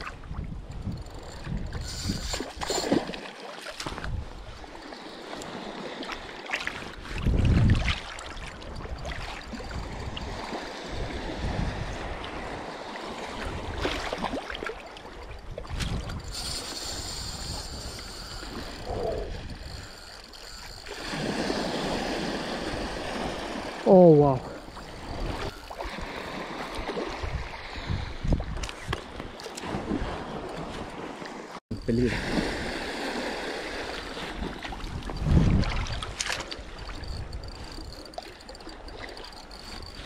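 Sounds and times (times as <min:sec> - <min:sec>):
wind buffeting microphone: 0:00.0 - 0:02.7, 0:07.0 - 0:12.7, 0:15.2 - 0:23.8, 0:24.4 - 0:31.1, 0:31.7 - 0:40.0
small waves lapping and splashing: 0:00.0 - 0:40.0.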